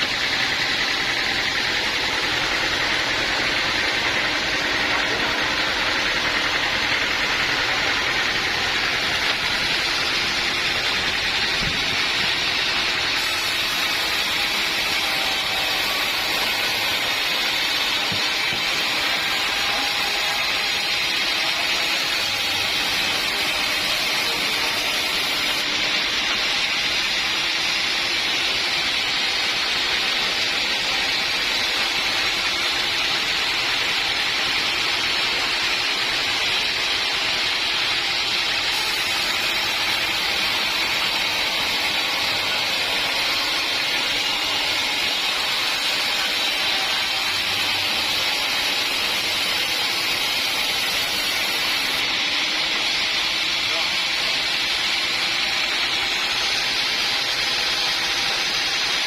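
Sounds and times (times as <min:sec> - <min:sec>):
sawmill machinery hissing: 0:00.0 - 0:59.0.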